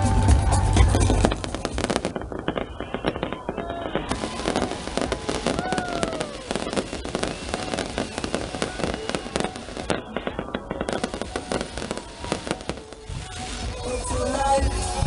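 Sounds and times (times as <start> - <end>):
fireworks popping and crackling: 0.0 - 15.0.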